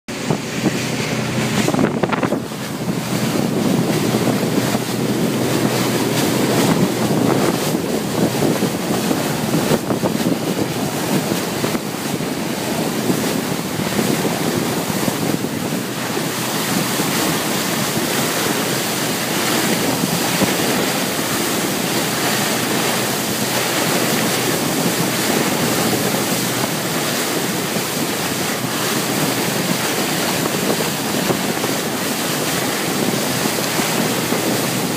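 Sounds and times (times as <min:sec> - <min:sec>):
water rushing along hull: 0:00.1 - 0:34.9
wind buffeting microphone: 0:00.1 - 0:34.9.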